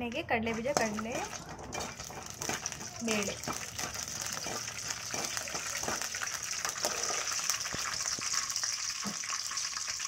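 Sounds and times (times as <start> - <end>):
food frying in hot oil: 0.0 - 10.0.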